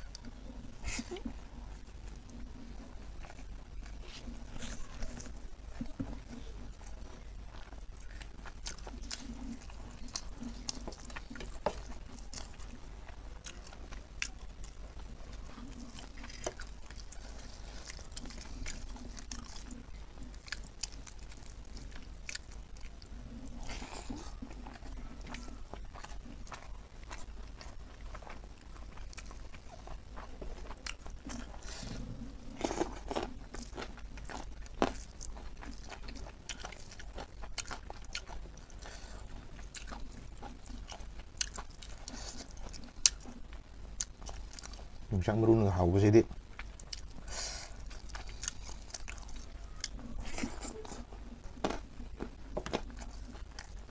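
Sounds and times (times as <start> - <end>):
chewing and mouth sounds: 0.0 - 45.1, 46.2 - 53.9
steady low hum: 0.0 - 53.9.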